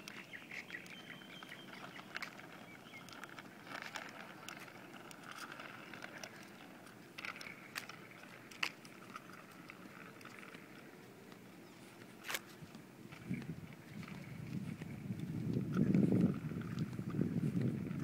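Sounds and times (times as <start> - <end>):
bicycle rattling over asphalt: 0.0 - 18.0.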